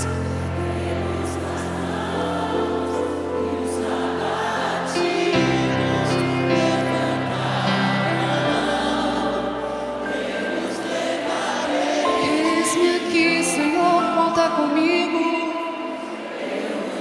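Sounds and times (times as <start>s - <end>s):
many voices singing: 0.0s - 17.0s.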